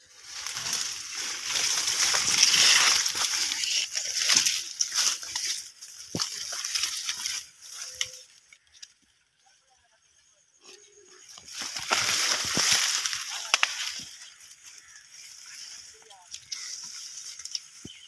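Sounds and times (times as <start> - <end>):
tall grass rustling and swishing: 0.0 - 8.5, 11.1 - 18.0
dry stalks crackling: 0.0 - 18.0.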